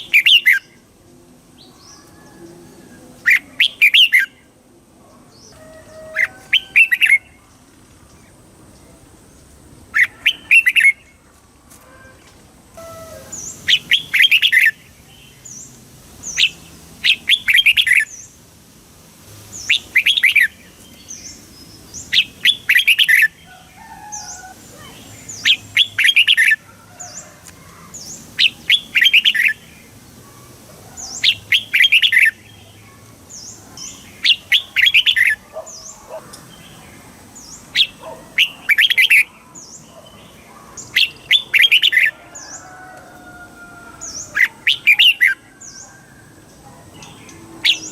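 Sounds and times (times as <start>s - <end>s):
bird singing warbled phrases: 0.0s - 0.9s, 3.2s - 11.2s, 12.8s - 18.4s, 19.5s - 42.7s, 44.0s - 46.0s, 46.6s - 47.9s.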